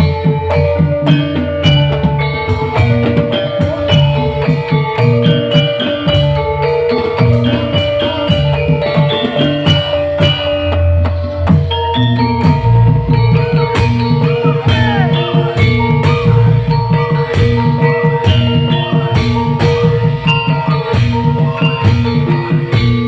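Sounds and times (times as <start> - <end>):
drum beat: 0.0 - 23.0
short repeated plucked notes: 0.0 - 23.0.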